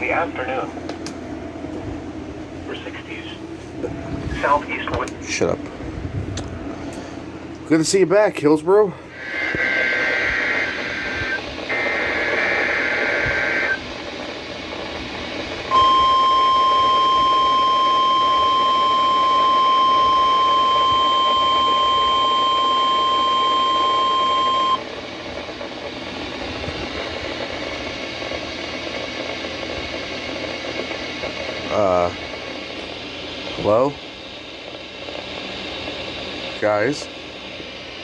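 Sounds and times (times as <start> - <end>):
steady radio hiss: 0.0 - 38.0.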